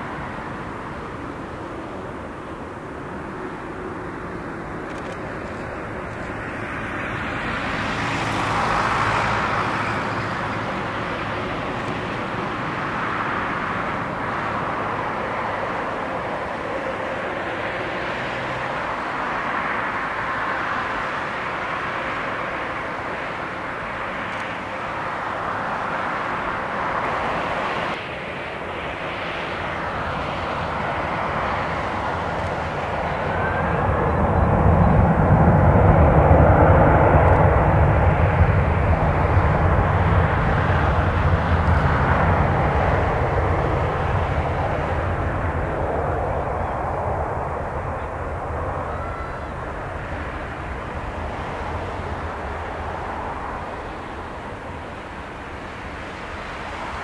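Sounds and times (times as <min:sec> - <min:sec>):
jet engines hiss and whine: 0:00.0 - 0:57.0
low engine rumble: 0:00.0 - 0:57.0.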